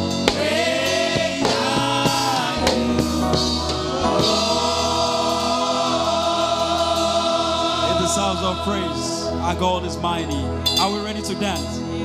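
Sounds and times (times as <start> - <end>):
drum kit strokes: 0.0 - 9.6
choir singing: 0.0 - 11.2
bass line: 0.0 - 11.5.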